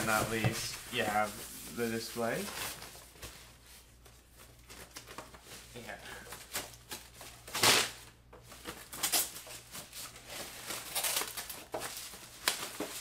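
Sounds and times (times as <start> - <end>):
plastic wrapping rustling: 0.0 - 13.0.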